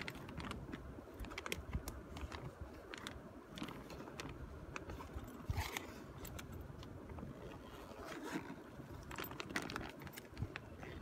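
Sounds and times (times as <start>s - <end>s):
coated fabric rustling and crinkling: 0.0s - 11.0s.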